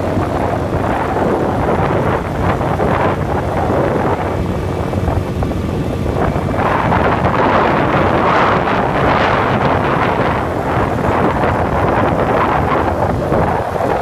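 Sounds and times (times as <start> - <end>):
scooter ride noise: 0.0 - 14.0
wind buffeting microphone: 0.0 - 14.0.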